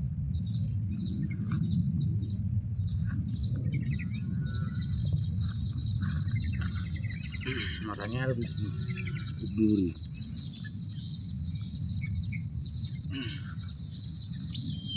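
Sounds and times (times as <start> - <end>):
small birds chirping: 0.0 - 14.9
steady low rumble: 0.0 - 14.9.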